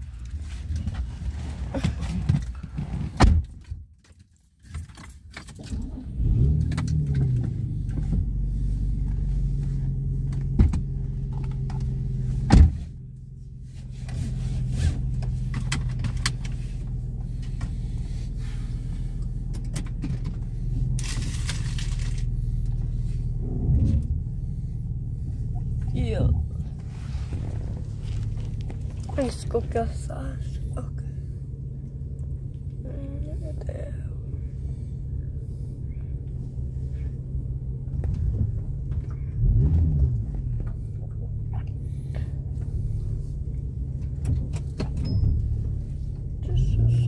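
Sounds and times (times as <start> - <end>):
car engine starting and running: 0.0 - 47.0.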